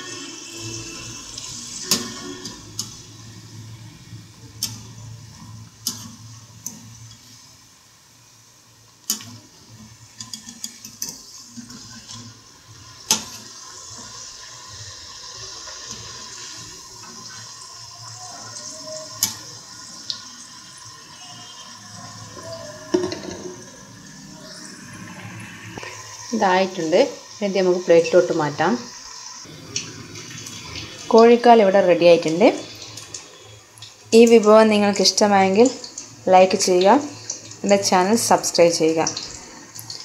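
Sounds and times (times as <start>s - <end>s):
deep-frying sizzle in hot oil: 0.0s - 40.0s.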